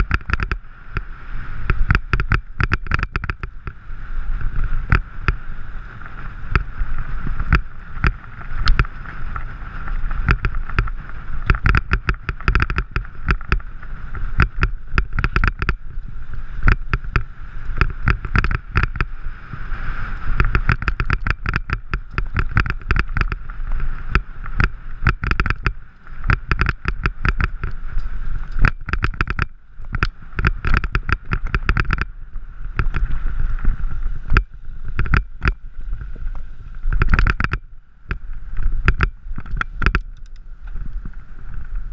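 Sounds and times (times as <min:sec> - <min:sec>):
bike rattling and knocking: 0:00.0 - 0:19.2, 0:20.3 - 0:41.9
tyres rumbling on gravel: 0:00.0 - 0:39.8.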